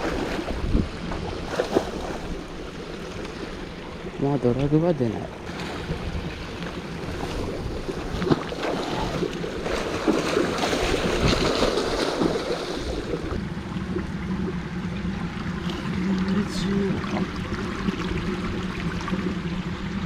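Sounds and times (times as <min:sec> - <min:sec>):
water splashing and churning: 0:00.0 - 0:20.0.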